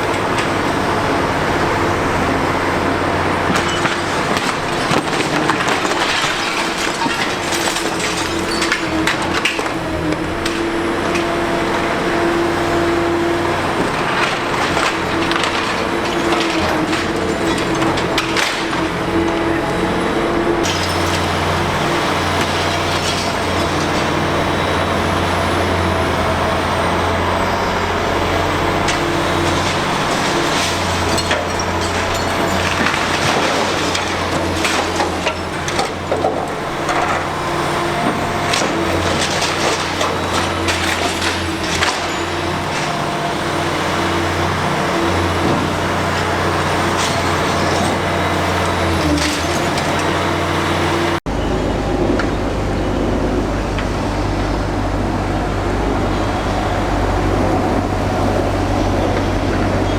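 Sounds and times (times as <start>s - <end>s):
concrete crunching and clattering: 0.0s - 51.3s
excavator engine and hydraulics: 0.0s - 59.9s.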